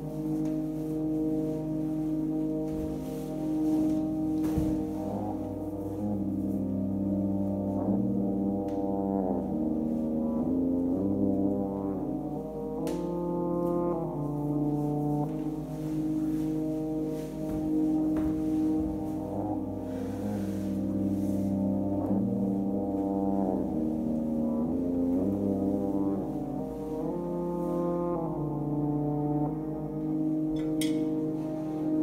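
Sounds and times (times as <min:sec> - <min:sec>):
slow long-held chords: 0:00.0 - 0:32.0.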